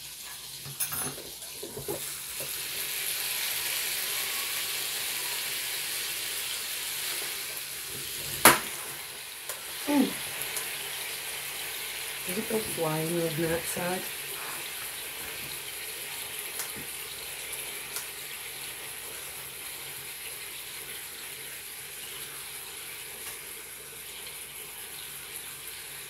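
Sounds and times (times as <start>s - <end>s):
meat sizzling in waffle maker: 0.0s - 26.0s.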